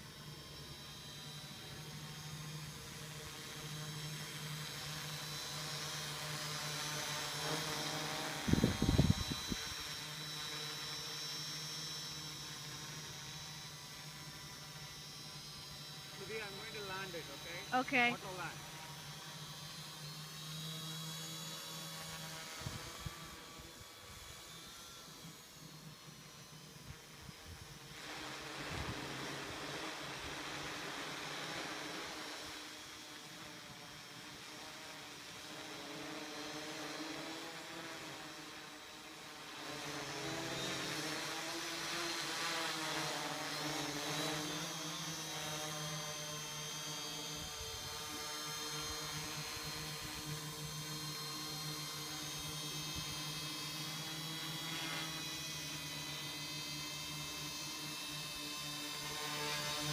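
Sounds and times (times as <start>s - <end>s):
quadcopter propellers whining: 0.0s - 59.9s.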